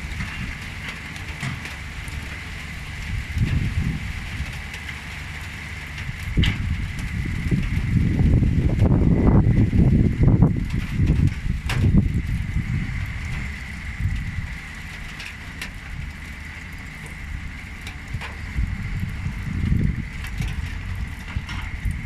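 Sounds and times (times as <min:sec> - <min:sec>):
excavator engine rumbling: 0:00.0 - 0:22.0.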